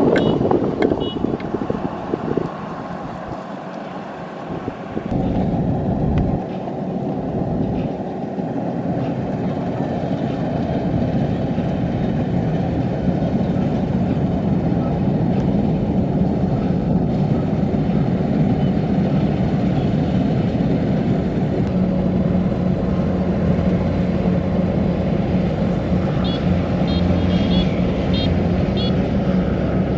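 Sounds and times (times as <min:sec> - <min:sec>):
combine harvester engine humming: 0:00.0 - 0:29.9.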